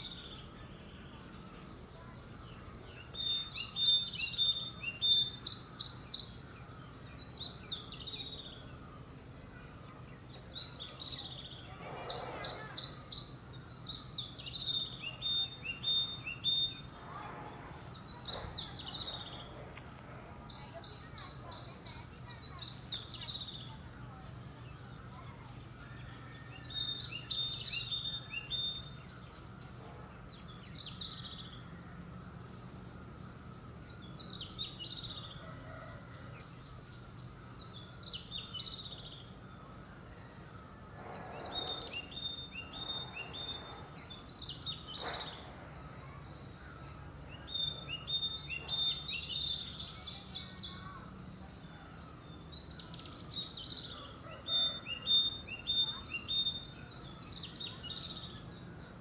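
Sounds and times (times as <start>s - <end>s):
songbird trilling: 0.0s - 8.7s, 10.4s - 16.9s, 18.1s - 24.2s, 24.8s - 31.7s, 33.0s - 59.0s.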